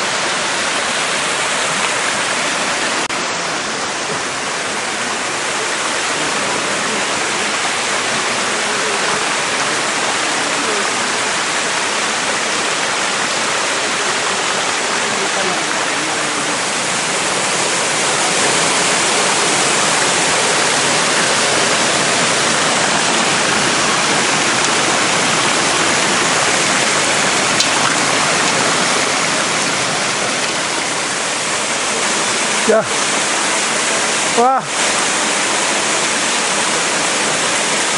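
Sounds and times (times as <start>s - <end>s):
waterfall pouring over rocks: 0.0s - 37.9s.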